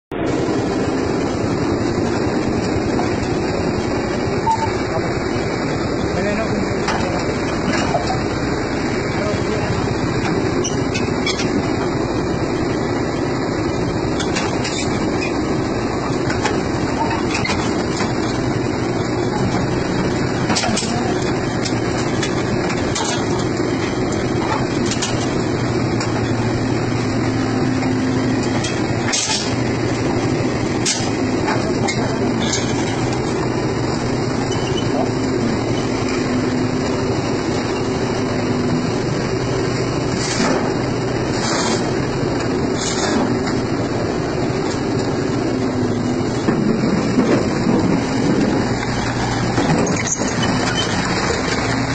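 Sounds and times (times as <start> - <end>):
excavator diesel engine running: 0.1 - 51.9.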